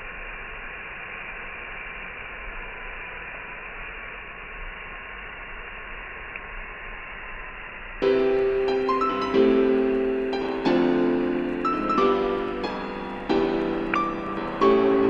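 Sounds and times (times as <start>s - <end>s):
campfire hissing: 0.0s - 15.0s.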